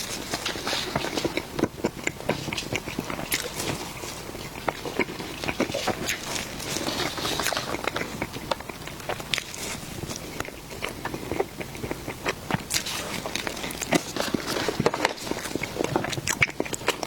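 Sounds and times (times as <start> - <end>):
person chewing soft food: 0.0 - 17.0.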